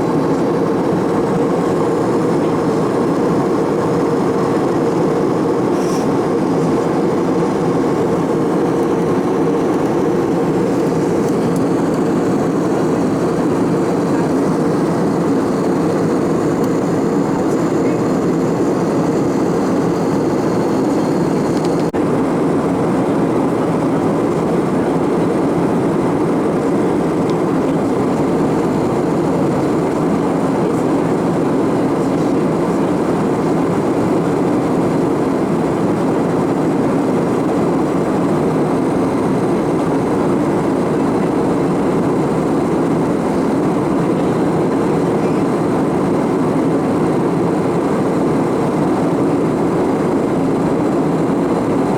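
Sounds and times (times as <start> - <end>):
airplane cabin engine rumble: 0.0 - 51.9.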